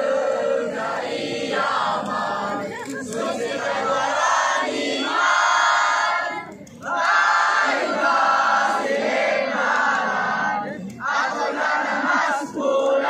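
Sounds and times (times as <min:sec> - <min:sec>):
group chanting: 0:00.0 - 0:13.0.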